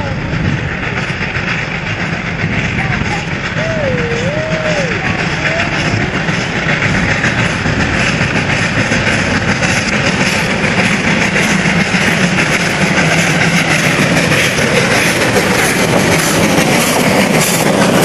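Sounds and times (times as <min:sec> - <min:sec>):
steam locomotive running: 0:00.0 - 0:18.0.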